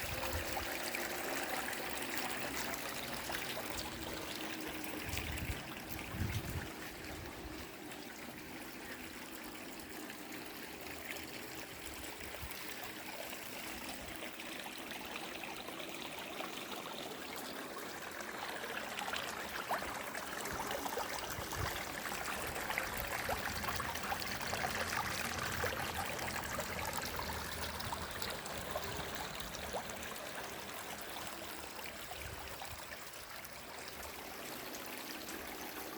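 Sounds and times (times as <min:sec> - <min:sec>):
water trickling in a stream: 0:00.0 - 0:35.9.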